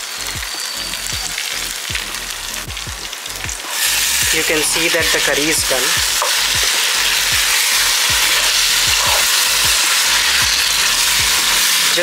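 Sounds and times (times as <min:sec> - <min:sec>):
background music beat: 0:00.0 - 0:11.9
curry sizzling in a pan: 0:00.0 - 0:12.0.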